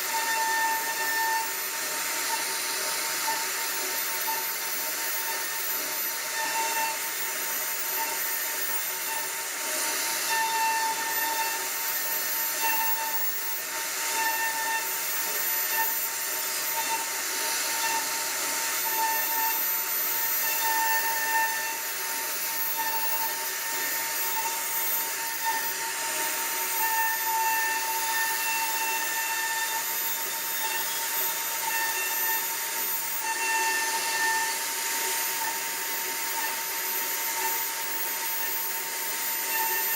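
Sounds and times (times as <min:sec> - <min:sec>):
router spindle carving wood: 0:00.0 - 0:39.9.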